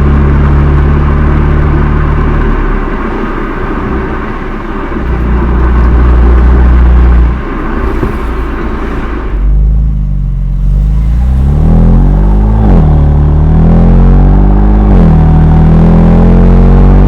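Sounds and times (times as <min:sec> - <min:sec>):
car exhaust drone: 0:00.0 - 0:17.0.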